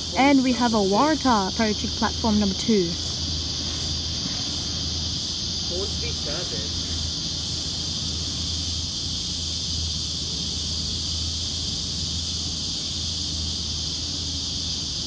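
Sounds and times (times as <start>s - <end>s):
insect chorus: 0.0s - 15.0s
low steady hum: 0.0s - 15.0s.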